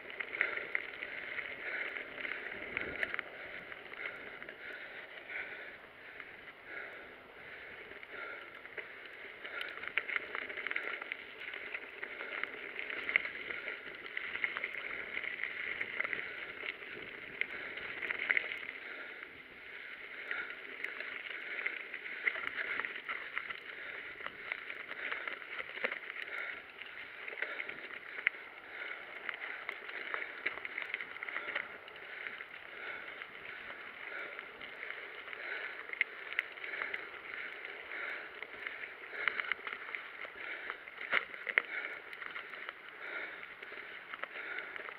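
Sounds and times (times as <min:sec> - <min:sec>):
bike rattling over bumps: 0:00.0 - 0:44.9
bike tyres crunching on gravel: 0:00.0 - 0:44.9.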